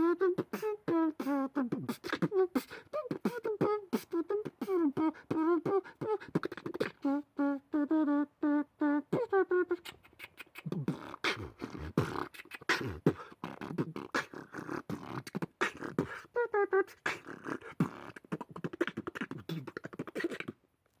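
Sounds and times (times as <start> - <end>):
beatbox-like pops and clicks: 0.0 - 21.0.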